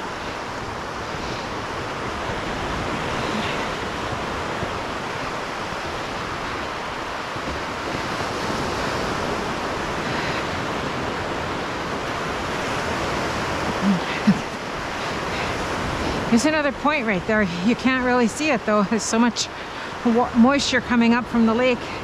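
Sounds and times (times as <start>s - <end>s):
surf washing onto beach: 0.0s - 22.0s.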